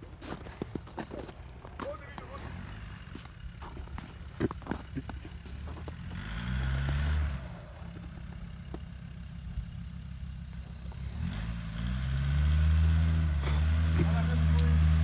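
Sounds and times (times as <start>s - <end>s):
engine revving under load: 1.8s - 15.0s.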